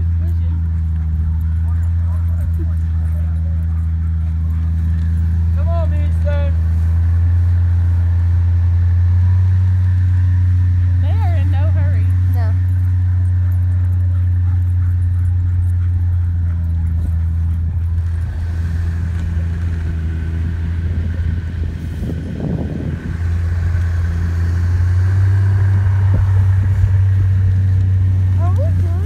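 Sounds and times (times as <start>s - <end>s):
dog sled rumbling over snow: 0.0s - 29.0s.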